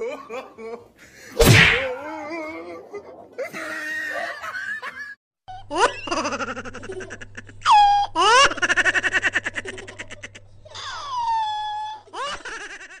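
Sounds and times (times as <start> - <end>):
high-pitched giggly laughter: 1.9 - 13.0.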